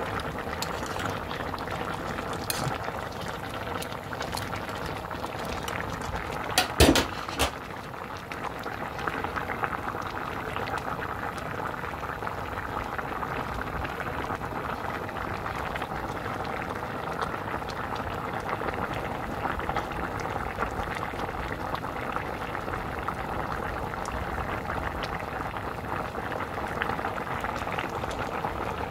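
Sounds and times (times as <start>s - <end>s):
stew bubbling in a pot: 0.0s - 28.9s.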